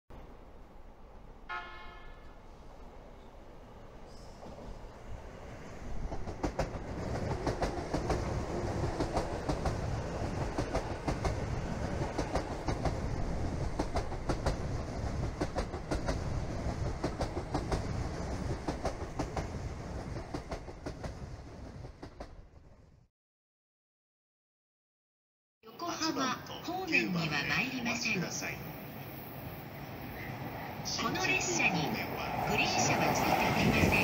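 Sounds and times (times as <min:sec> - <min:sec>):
electric train rumbling: 0:00.1 - 0:23.1, 0:25.9 - 0:34.0.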